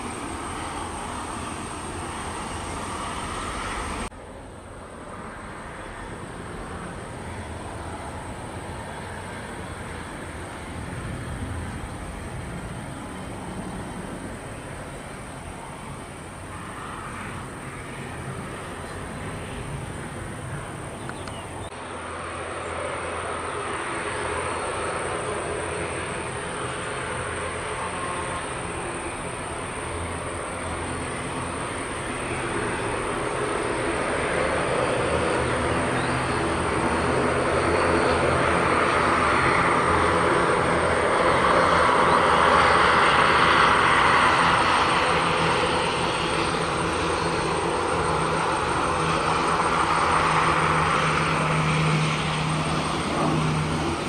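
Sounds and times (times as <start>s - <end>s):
aircraft engine taxiing: 0.0s - 54.0s
turboprop aircraft engines running: 0.0s - 54.0s.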